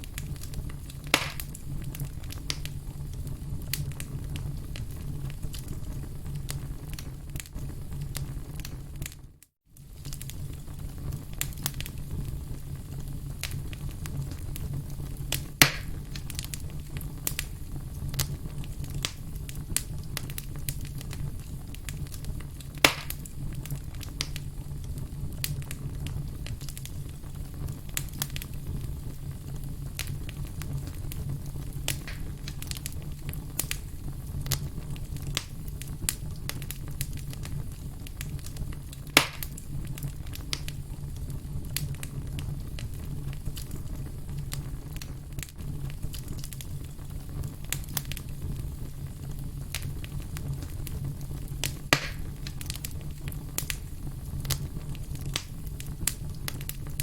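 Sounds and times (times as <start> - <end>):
campfire crackling and popping: 0.0 - 57.0
loud fire snaps: 0.0 - 57.0.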